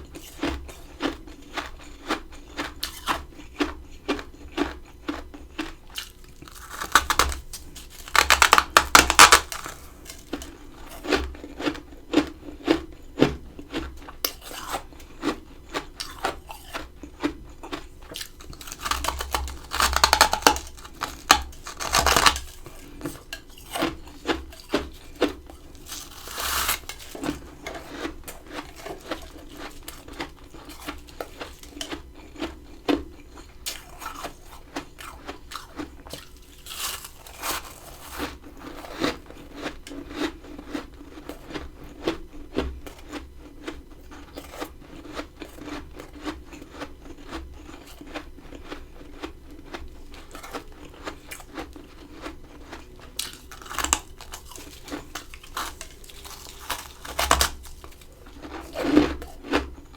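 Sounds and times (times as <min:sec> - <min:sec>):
freezer frost ice crunching: 0:00.1 - 0:59.9.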